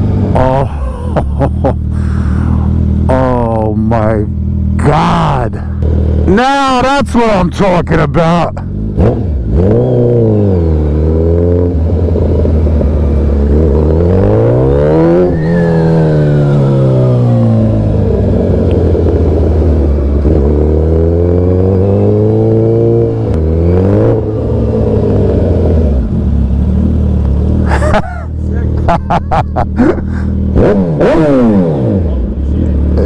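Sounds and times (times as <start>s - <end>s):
motorcycle engine accelerating: 0.0s - 7.4s, 8.3s - 33.0s.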